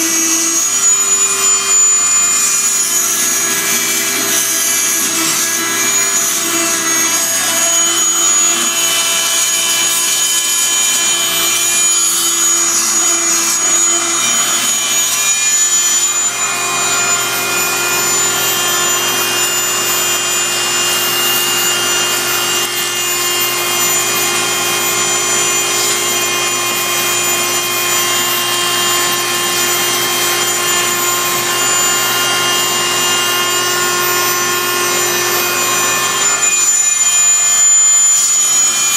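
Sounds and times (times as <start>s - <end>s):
oscillating tool grinding grout: 0.0s - 38.9s.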